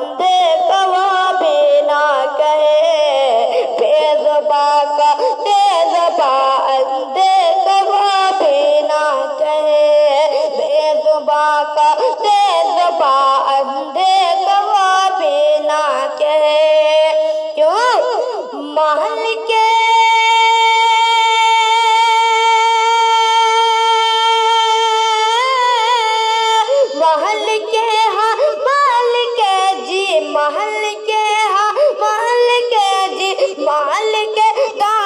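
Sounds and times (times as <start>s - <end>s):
boy singing devotional song: 0.0s - 35.0s.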